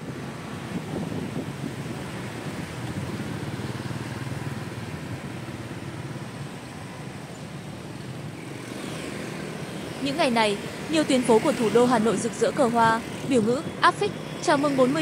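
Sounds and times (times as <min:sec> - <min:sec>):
motorbike engine and road noise: 0:00.0 - 0:15.0.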